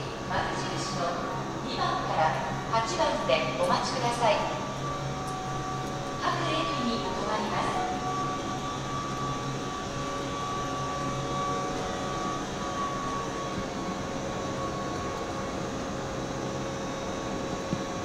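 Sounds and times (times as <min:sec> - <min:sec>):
electric train hum: 0:00.0 - 0:18.0
faint whining tones: 0:00.0 - 0:18.0.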